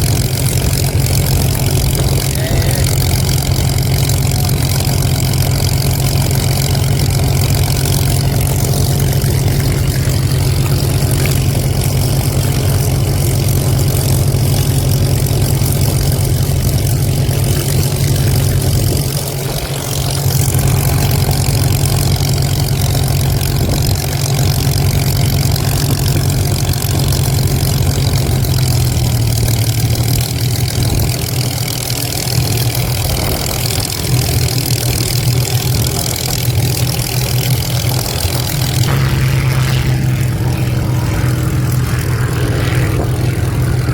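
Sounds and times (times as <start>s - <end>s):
piston aero engine idling: 0.0s - 43.9s.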